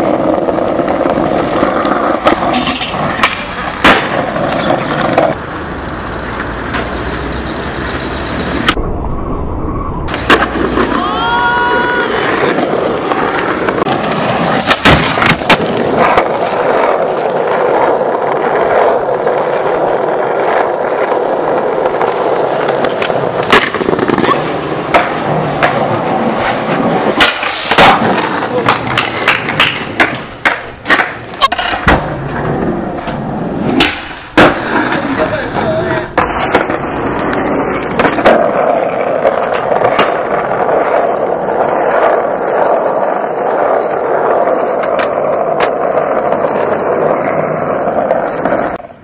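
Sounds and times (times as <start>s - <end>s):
skateboard tail clacks: 0.0s - 5.4s, 6.2s - 7.0s, 10.1s - 49.0s
skateboard wheels rolling on asphalt: 0.0s - 49.0s.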